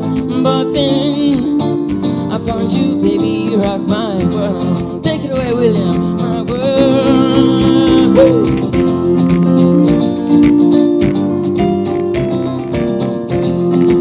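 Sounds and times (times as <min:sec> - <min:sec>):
live band playing: 0:00.0 - 0:14.0
pitch-bending melody line: 0:00.0 - 0:14.0.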